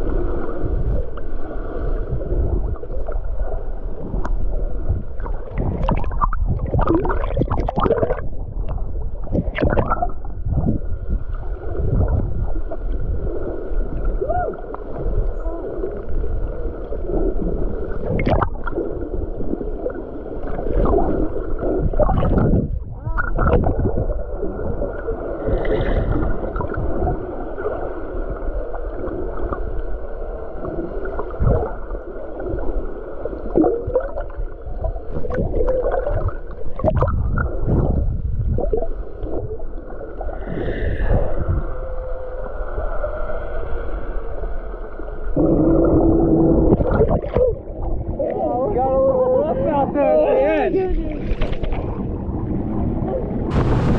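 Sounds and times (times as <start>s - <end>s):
muffled water gurgling and sloshing: 0.0s - 53.9s.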